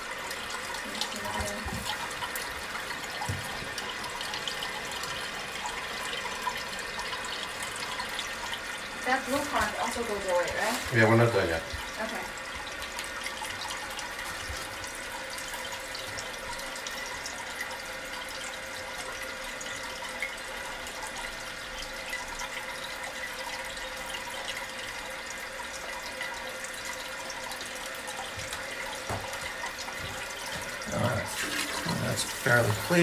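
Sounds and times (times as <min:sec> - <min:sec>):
water filling toilet tank: 0:00.0 - 0:33.0.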